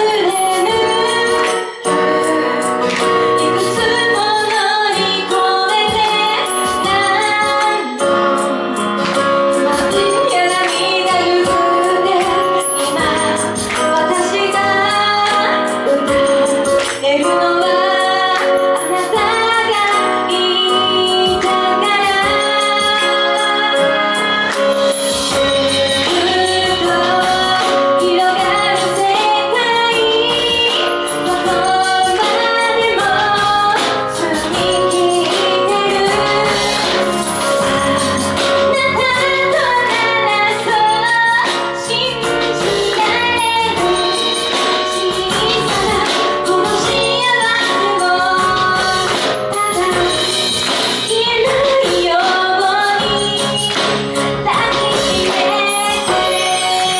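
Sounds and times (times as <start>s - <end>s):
instrumental accompaniment: 0.0s - 56.9s
woman singing pop song: 0.0s - 56.9s.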